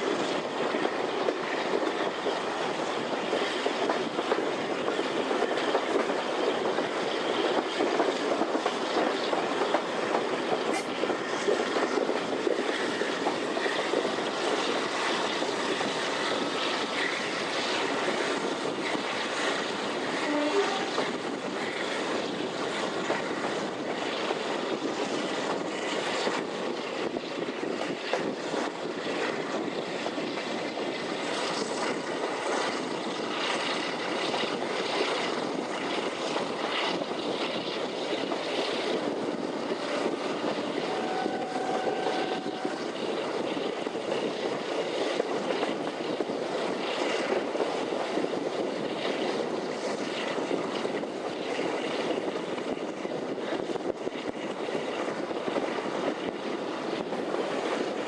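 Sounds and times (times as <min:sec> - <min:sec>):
diesel locomotive engine drone: 0:00.0 - 0:58.0
train running noise: 0:00.0 - 0:58.0.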